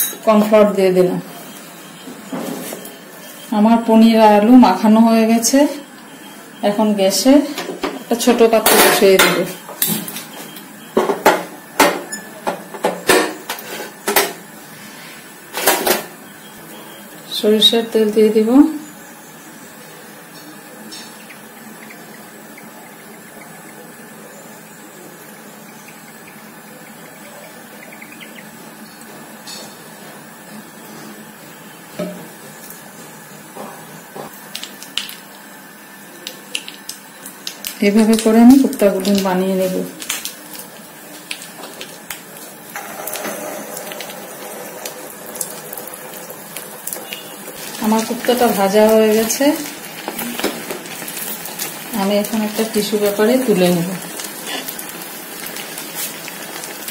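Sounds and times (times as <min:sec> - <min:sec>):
food deep-frying in oil: 0:00.0 - 0:56.9.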